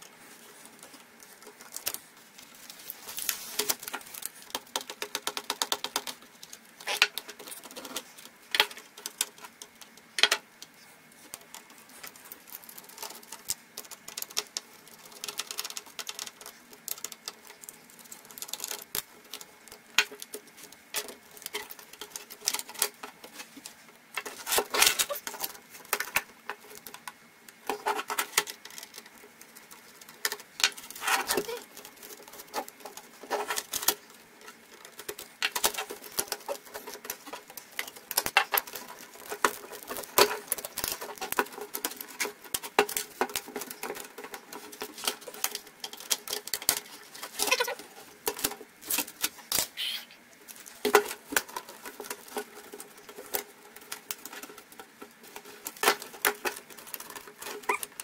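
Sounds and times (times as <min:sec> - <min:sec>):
laptop parts clicking and scraping: 0:00.1 - 0:49.8, 0:50.4 - 0:58.0.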